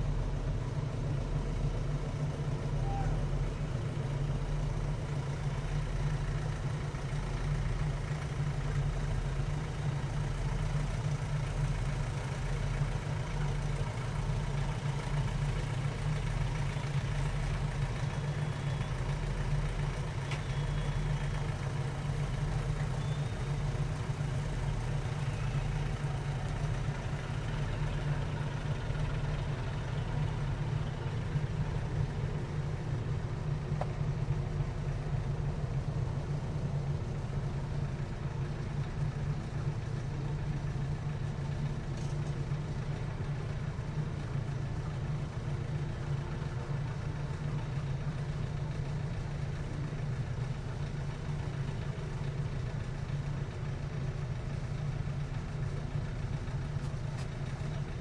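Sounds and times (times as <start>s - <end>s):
low engine hum: 0.0s - 58.0s.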